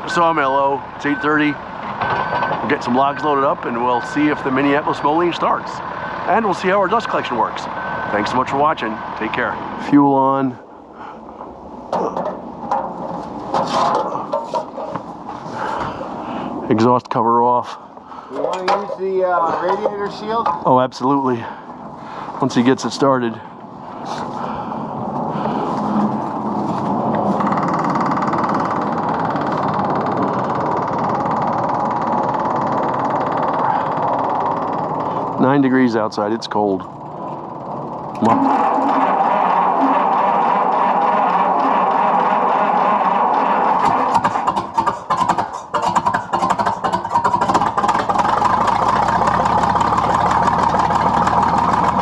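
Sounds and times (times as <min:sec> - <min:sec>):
tractor engine starting and running: 0:00.0 - 0:52.0.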